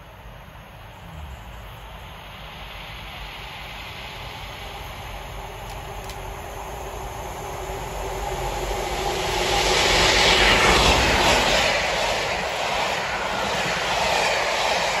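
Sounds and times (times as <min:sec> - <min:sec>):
diesel locomotive engine drone: 0:00.0 - 0:15.0
train coaches rumbling past: 0:00.0 - 0:15.0.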